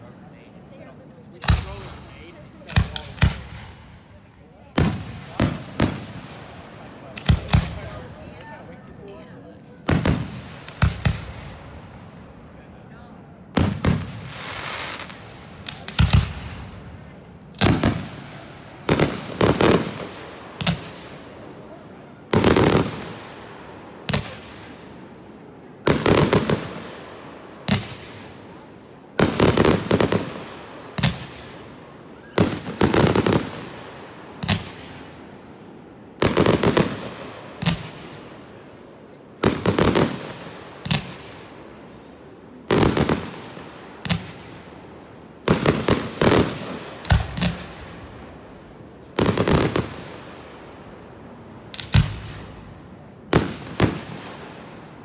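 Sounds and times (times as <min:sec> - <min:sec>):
fireworks booming: 0:01.3 - 0:08.2, 0:09.8 - 0:12.4, 0:13.4 - 0:55.0.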